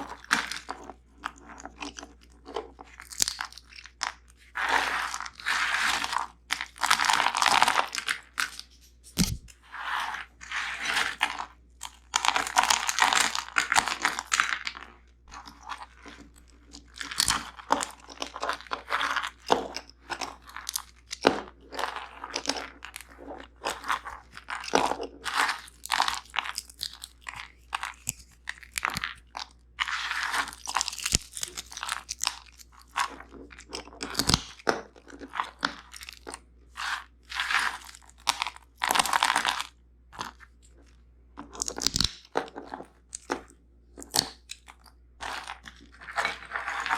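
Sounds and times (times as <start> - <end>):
crunching and chewing nuts: 0.0 - 46.9.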